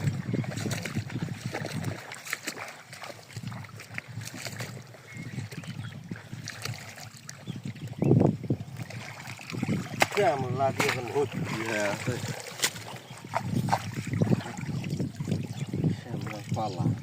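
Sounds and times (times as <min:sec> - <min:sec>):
water sloshing and lapping: 0:00.0 - 0:17.0.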